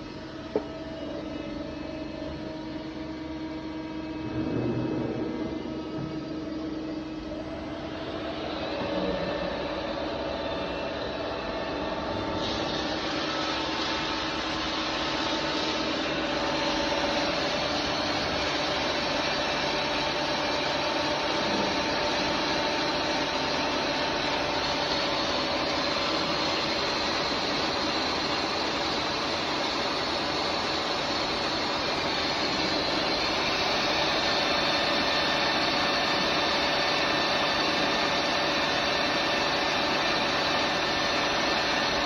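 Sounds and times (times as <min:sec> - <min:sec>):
machine spindle whine: 0:00.0 - 0:42.0.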